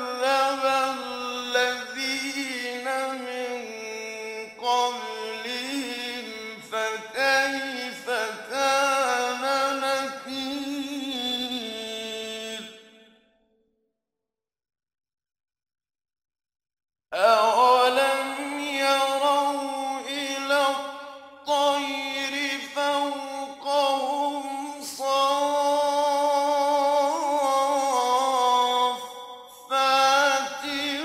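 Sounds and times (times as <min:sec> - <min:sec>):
man chanting recitation: 0:00.0 - 0:12.8, 0:17.2 - 0:31.0.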